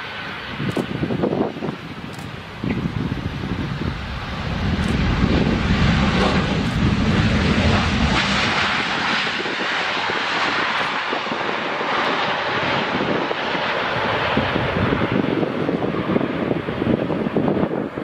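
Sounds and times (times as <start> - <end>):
jet engines and airframe rush: 0.0 - 18.0
deep engine rumble: 0.6 - 18.0.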